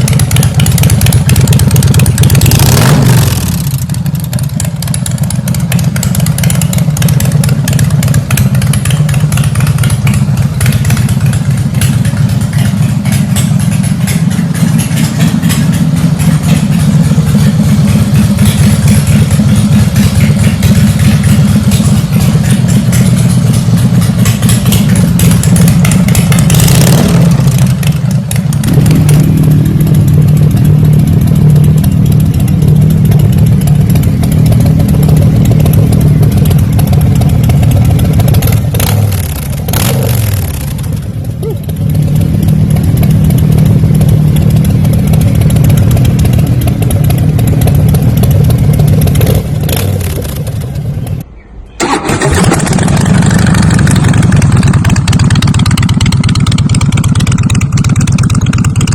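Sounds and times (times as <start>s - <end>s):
motorcycle engine running loud: 0.0s - 58.9s.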